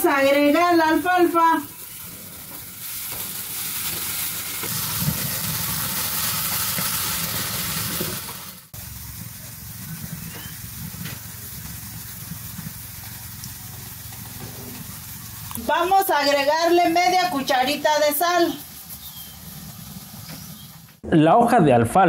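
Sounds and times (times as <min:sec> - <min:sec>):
vegetables sizzling in a skillet: 0:00.0 - 0:21.0.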